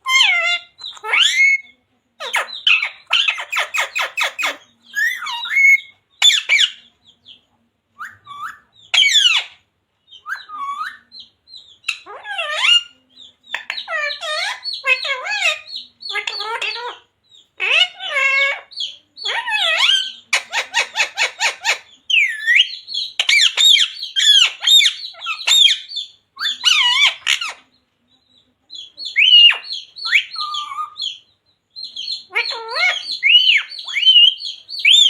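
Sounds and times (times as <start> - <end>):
parrot squawking: 0.0 - 6.9, 8.0 - 9.6, 10.2 - 11.2, 11.8 - 17.0, 17.6 - 27.6, 29.0 - 31.2, 32.0 - 35.0.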